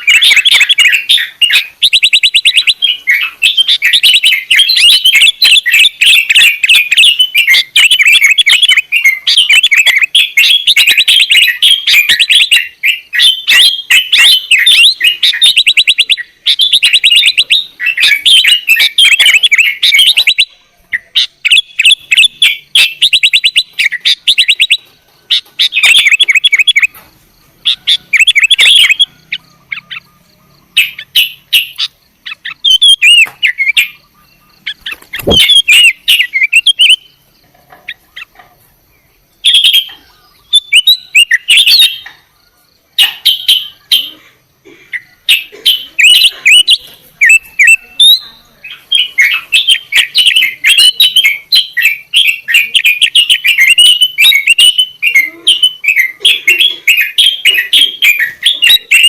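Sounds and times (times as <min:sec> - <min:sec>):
bulbul chattering: 0:00.0 - 0:59.0.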